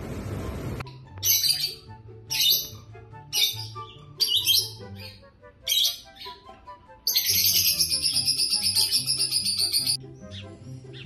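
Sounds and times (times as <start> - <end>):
lovebirds chirping: 0.9 - 11.0.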